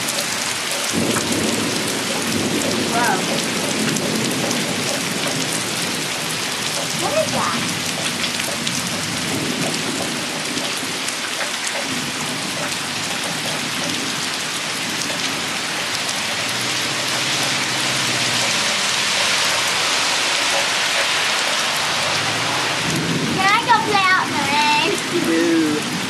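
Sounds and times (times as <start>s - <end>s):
low rumbling thunder: 0.0s - 11.2s, 11.8s - 25.1s
heavy rain pouring: 0.0s - 26.0s.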